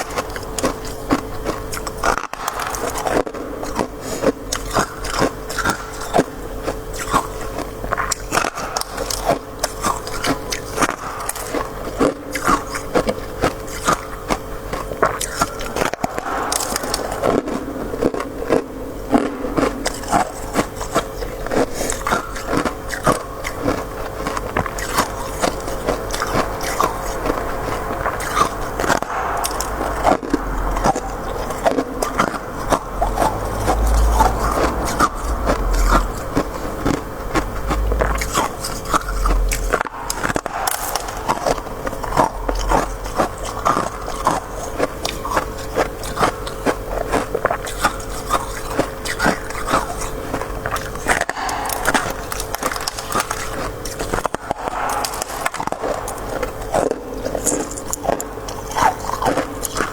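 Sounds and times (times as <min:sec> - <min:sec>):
chewing crunchy frost: 0:00.0 - 0:59.9.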